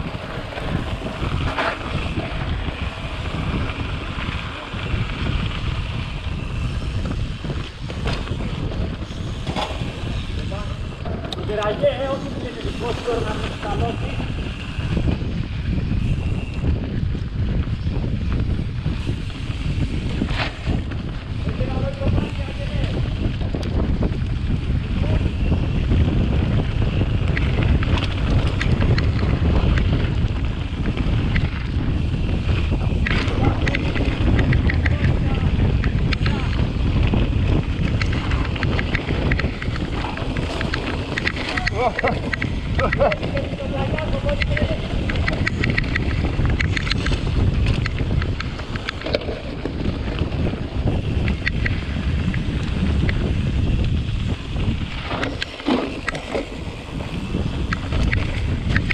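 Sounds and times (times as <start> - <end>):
bike clicks and rattles: 0.0 - 58.9
tyres rumbling on dirt trail: 0.0 - 58.9
wind buffeting microphone: 0.0 - 58.9.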